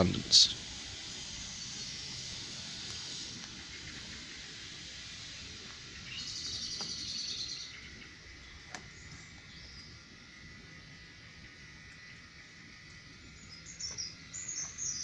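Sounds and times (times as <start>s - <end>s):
outdoor background noise: 0.0s - 15.0s
bird chirps: 1.2s - 15.0s.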